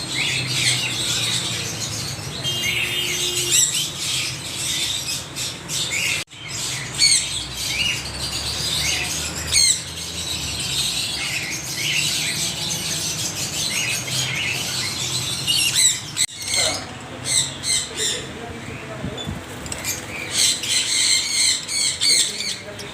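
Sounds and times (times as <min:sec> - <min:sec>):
flock of parrots chirping and squawking: 0:00.0 - 0:22.9.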